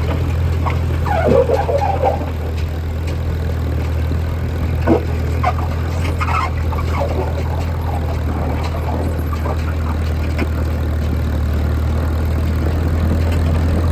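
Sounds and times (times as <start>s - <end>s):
tractor engine droning: 0.0s - 13.9s.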